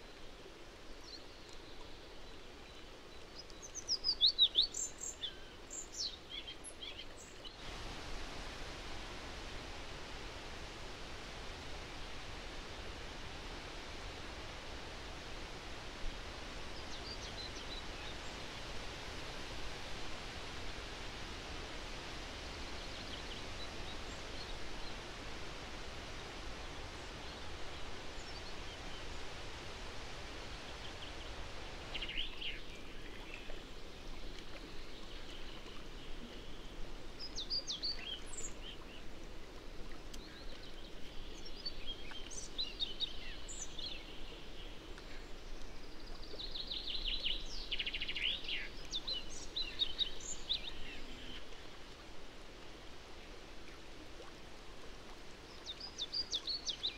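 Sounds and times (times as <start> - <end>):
steady outdoor hiss: 0.0 - 56.9.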